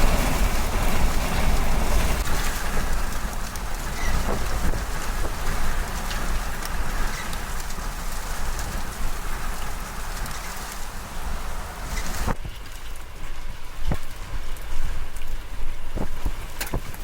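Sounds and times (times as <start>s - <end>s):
heavy rain and hail pelting: 0.0s - 17.0s
wind rumbling on microphone: 0.0s - 17.0s.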